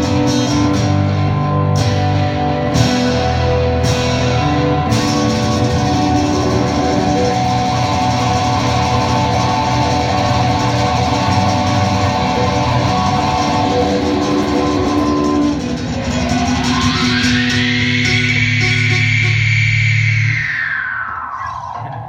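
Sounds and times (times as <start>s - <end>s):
acoustic guitars strummed: 0.0s - 20.1s.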